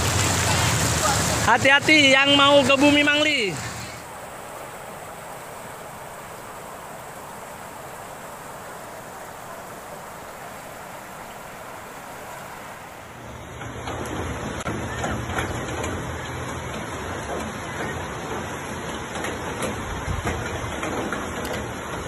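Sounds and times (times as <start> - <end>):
floodwater rushing along a street: 0.0 - 22.0.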